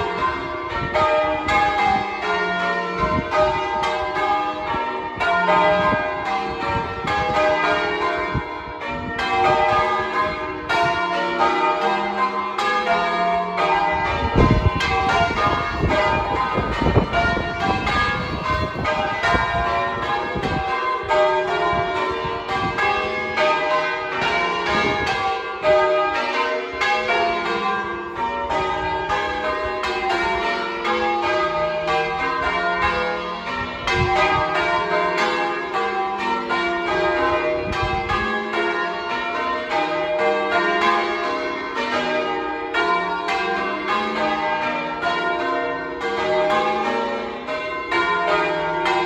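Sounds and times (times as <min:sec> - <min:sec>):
church bells change-ringing: 0:00.0 - 0:49.0.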